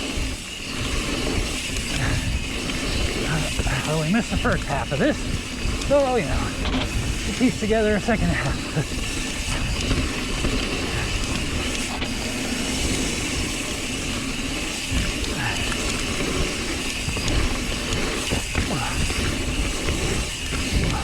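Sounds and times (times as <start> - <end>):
bike rattling: 0.0 - 21.0
tyres rolling over dirt: 0.0 - 21.0
wind on microphone: 0.0 - 21.0.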